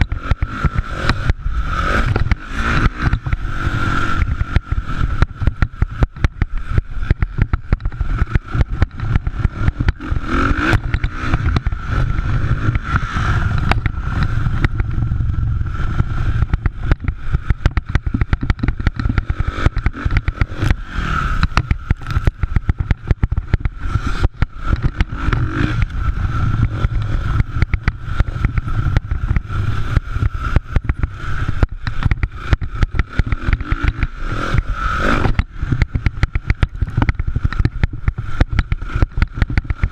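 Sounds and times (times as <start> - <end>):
motocross motorcycle engines running: 0.0 - 39.9
rough microphone noise: 0.0 - 39.9.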